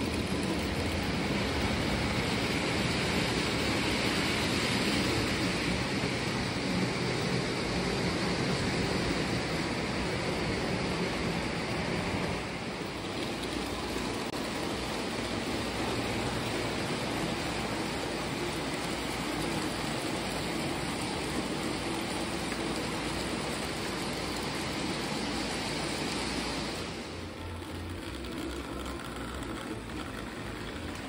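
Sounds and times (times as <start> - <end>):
model train running on track: 0.0 - 31.0.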